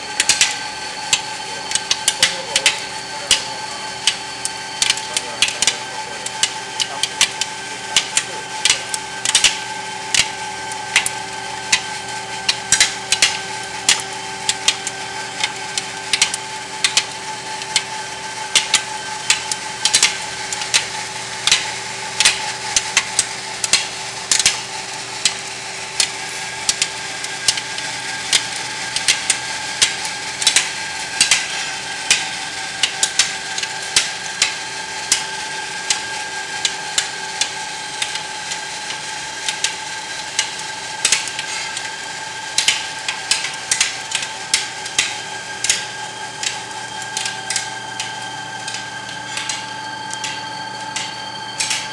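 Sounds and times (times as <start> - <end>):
roll forming machine humming: 0.0 - 51.9
sharp clicks and ticks: 0.1 - 51.9.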